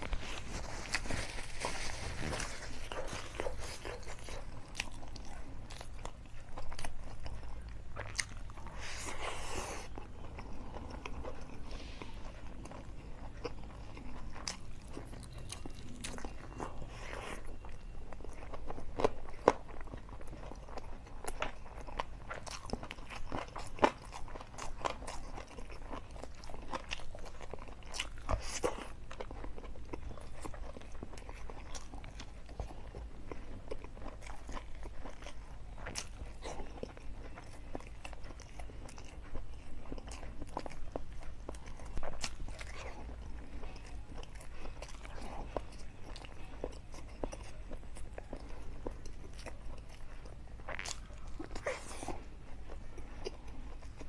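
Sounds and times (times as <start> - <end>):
person chewing with wet clicks: 0.0 - 54.0.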